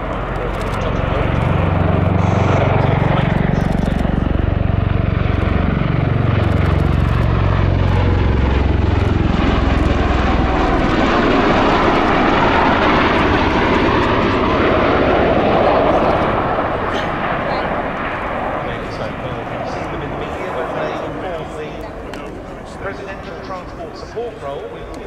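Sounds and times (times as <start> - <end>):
deep rotor tones: 0.0 - 23.7
rushing engine and rotor noise: 0.0 - 25.0
tilt-rotor aircraft flying low: 0.0 - 25.0.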